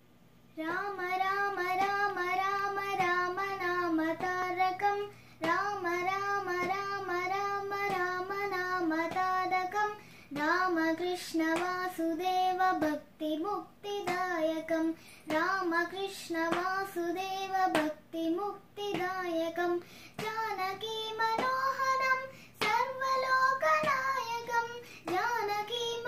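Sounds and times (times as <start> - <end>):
girl singing devotional song: 0.5 - 26.0.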